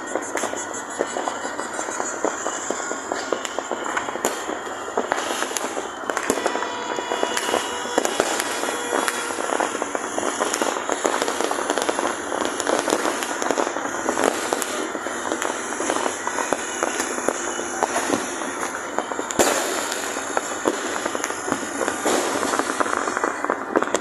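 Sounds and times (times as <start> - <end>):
fireworks popping and banging: 0.0 - 24.0.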